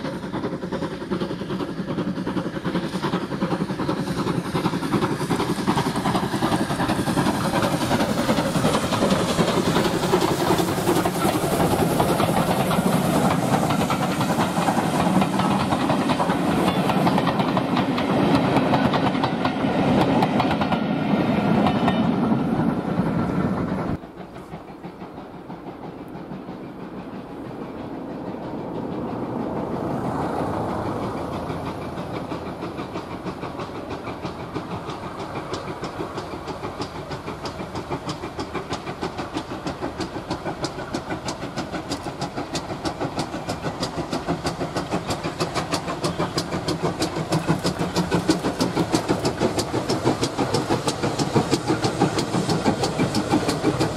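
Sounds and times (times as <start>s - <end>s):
railway coaches clattering on rails: 0.0s - 53.9s
steam hissing: 0.0s - 53.9s
steam locomotive chuffing: 0.0s - 53.9s.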